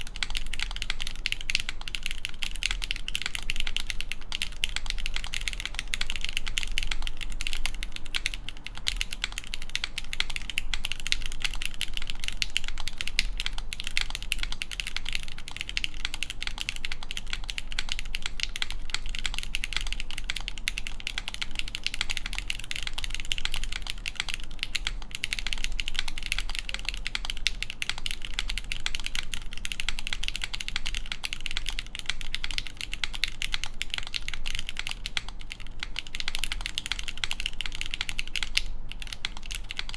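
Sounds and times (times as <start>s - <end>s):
mechanical keyboard key clacks: 0.0s - 39.9s.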